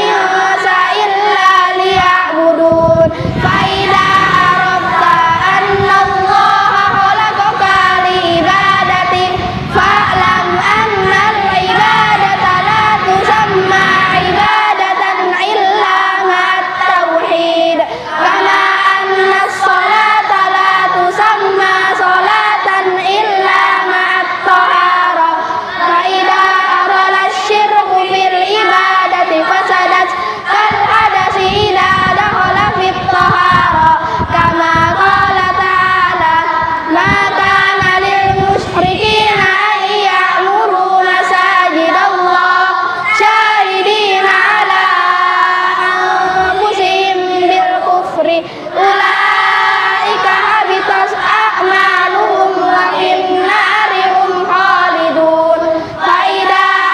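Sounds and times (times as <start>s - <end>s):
children chanting in unison: 0.0s - 56.9s.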